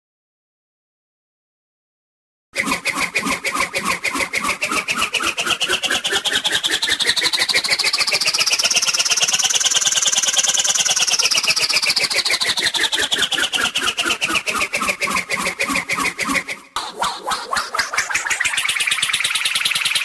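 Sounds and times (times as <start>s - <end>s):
cartoon swoosh with whistling tone: 2.6s - 20.0s.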